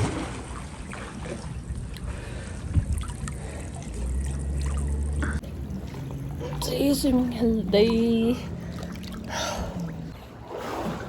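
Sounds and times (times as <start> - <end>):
light splashes: 0.0 - 11.0
water lapping in a pool: 0.0 - 11.0.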